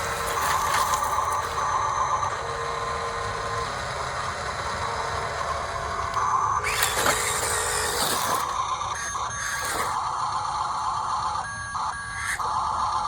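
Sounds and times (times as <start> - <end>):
small electric motors whirring: 0.0 - 13.0
steady hum: 0.0 - 13.0.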